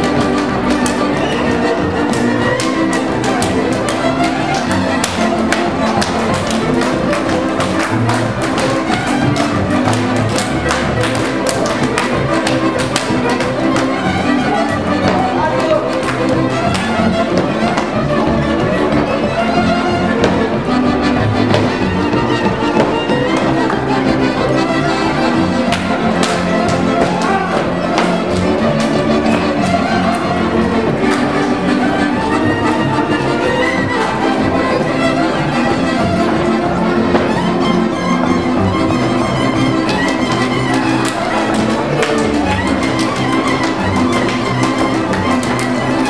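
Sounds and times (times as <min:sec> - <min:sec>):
accordion: 0:00.0 - 0:46.0
double bass: 0:00.0 - 0:46.0
fiddles playing melody: 0:00.0 - 0:46.0
string band playing a dance tune: 0:00.0 - 0:46.0.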